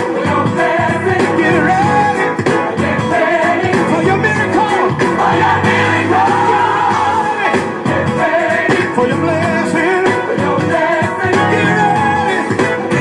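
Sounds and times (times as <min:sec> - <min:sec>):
song with singing and instruments: 0:00.0 - 0:13.0.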